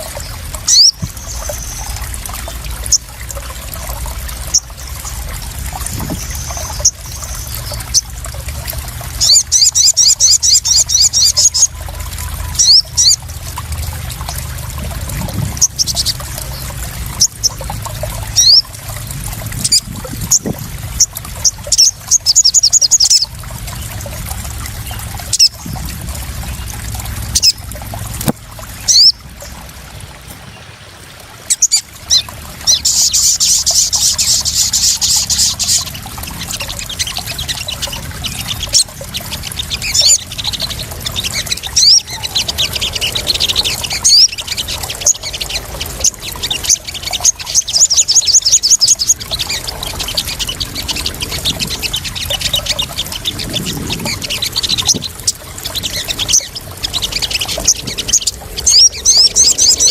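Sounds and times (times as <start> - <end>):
small birds chirping: 0.0 - 19.0, 19.6 - 29.6, 31.5 - 59.9
water splashing and trickling: 0.0 - 59.9.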